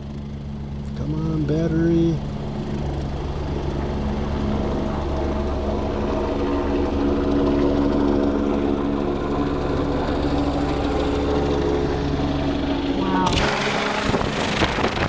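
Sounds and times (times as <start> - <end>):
helicopter rotor beat: 0.0 - 15.0
turbine hum: 0.0 - 15.0.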